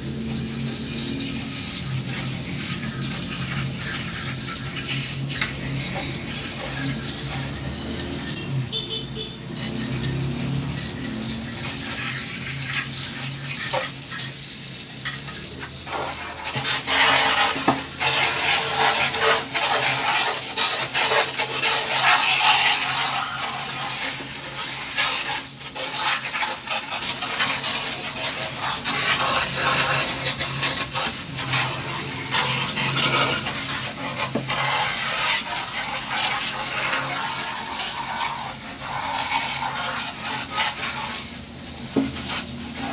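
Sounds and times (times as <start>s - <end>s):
water spraying onto metal unit: 0.0s - 42.9s.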